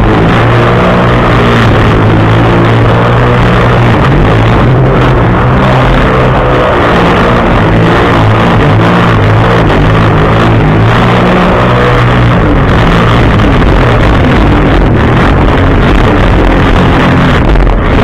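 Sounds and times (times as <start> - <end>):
water rushing against hull: 0.0 - 18.0
watercraft engine running: 0.0 - 18.0.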